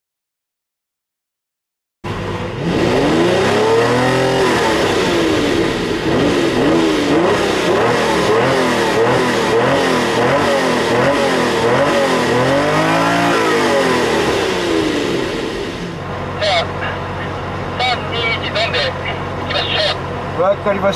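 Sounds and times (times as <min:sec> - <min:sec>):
car engine revving: 0:02.1 - 0:20.9.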